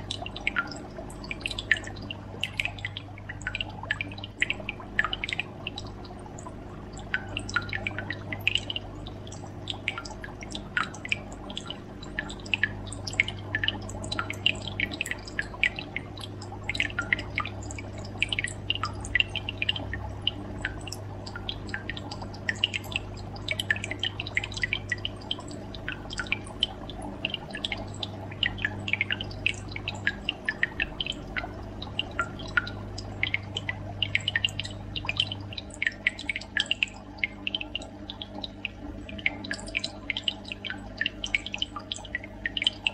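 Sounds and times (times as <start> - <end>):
steady low hum: 0.0 - 42.9
water drips and bubbles: 0.0 - 42.9.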